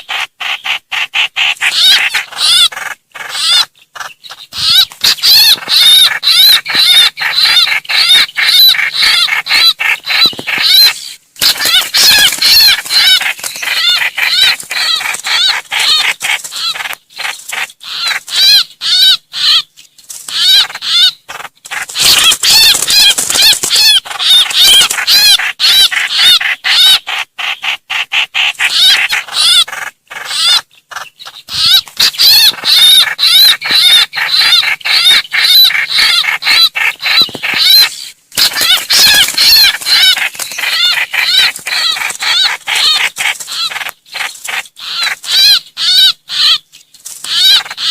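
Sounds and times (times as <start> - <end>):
bird distress calls: 0.0 - 47.9.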